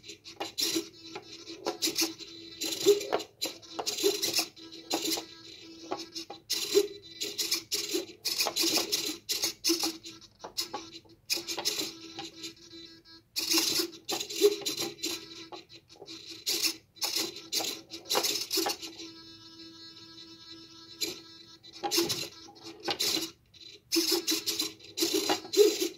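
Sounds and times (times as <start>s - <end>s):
faint steady hum: 0.0s - 25.9s
small motors whirring: 0.0s - 25.9s.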